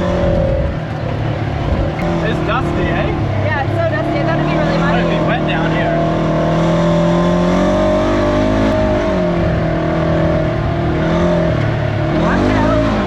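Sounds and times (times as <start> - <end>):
engine revving while driving: 0.0 - 13.0.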